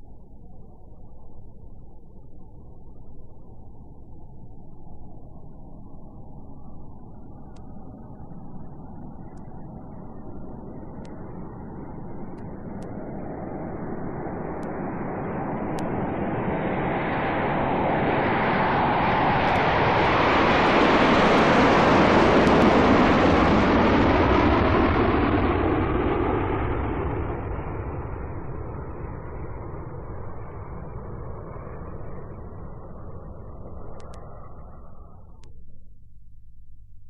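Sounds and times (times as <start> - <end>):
jet aircraft taking off: 2.9 - 35.4.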